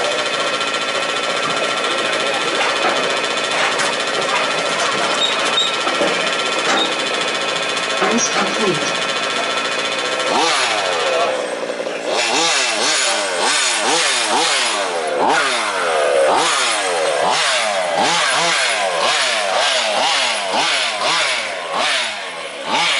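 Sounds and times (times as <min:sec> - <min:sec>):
small two-stroke engines revving: 0:00.0 - 0:22.9.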